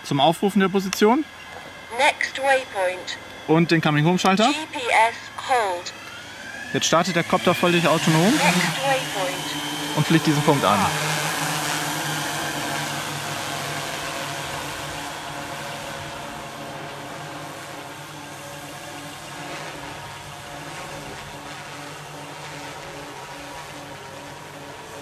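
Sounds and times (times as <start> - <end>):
multicopter propellers whirring: 0.0 - 25.0.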